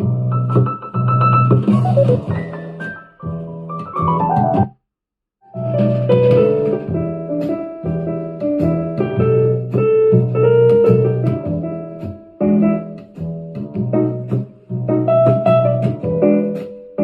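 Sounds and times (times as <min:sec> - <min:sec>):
piano music through small speaker: 0:00.0 - 0:04.8, 0:05.5 - 0:17.0.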